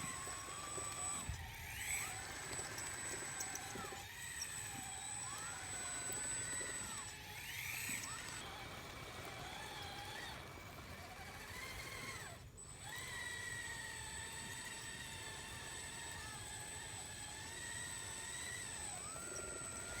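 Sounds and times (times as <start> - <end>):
electric motors whining: 0.0 - 20.0.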